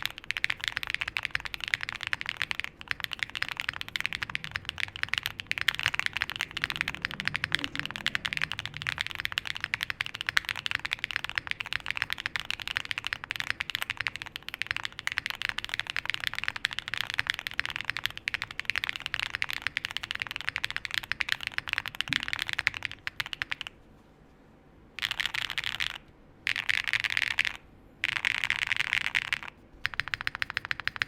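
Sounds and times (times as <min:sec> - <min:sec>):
mechanical keyboard typing: 0:00.0 - 0:23.8, 0:25.0 - 0:31.0.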